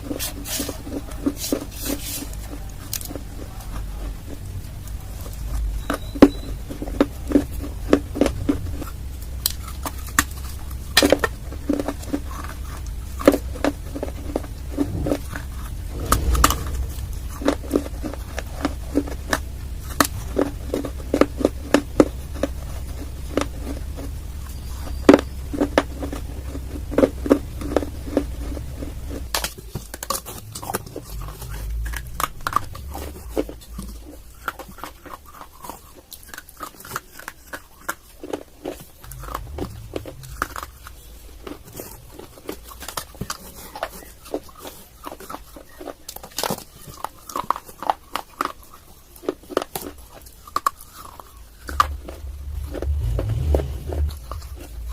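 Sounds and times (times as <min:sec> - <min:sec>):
chewing brittle clay: 0:00.0 - 0:54.9.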